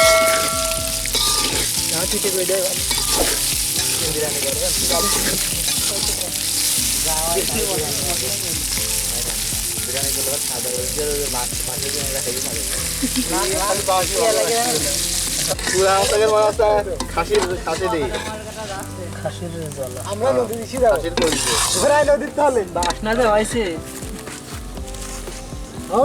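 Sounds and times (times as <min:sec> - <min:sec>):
food being stirred: 0:00.0 - 0:26.0
food sizzling in a pan: 0:00.0 - 0:26.0.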